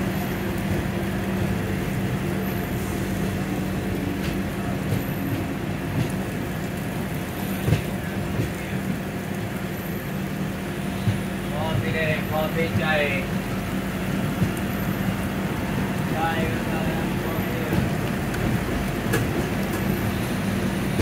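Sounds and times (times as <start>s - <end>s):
electric train passing alongside: 0.0s - 21.0s
train running rumble: 0.0s - 21.0s.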